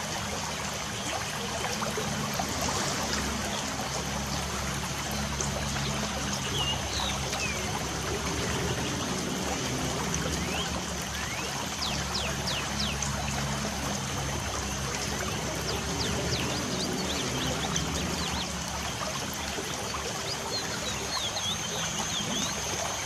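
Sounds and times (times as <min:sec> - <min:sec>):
light rain falling: 0:00.0 - 0:23.0.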